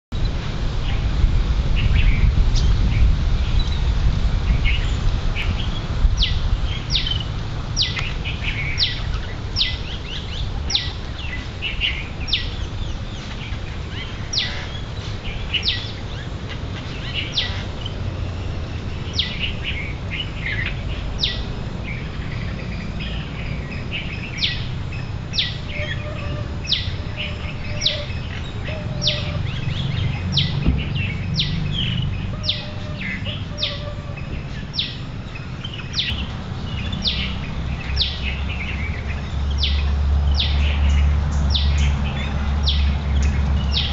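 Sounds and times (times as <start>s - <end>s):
steady low rumble: 0.1s - 43.9s
birds chirping softly: 1.7s - 43.9s.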